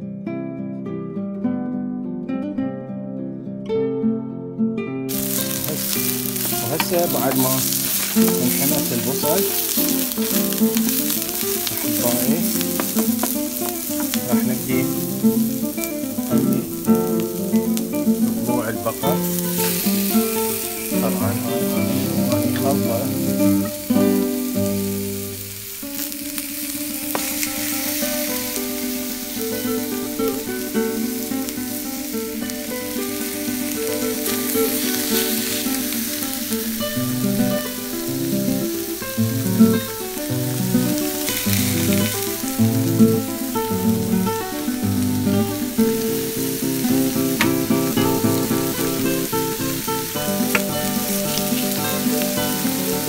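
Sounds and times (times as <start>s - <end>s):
background music: 5.1s - 53.0s
meat and onions sizzling: 5.1s - 53.0s.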